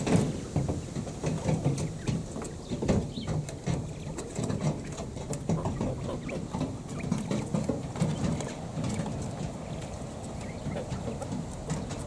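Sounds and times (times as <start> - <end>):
birds pecking and rustling in grass: 0.0 - 12.0.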